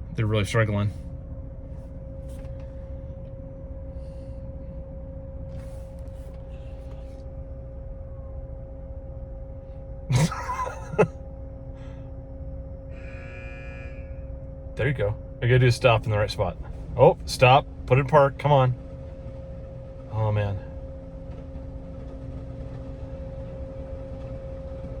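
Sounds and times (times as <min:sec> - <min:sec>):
engine idling hum: 0:00.0 - 0:13.2, 0:14.2 - 0:25.0.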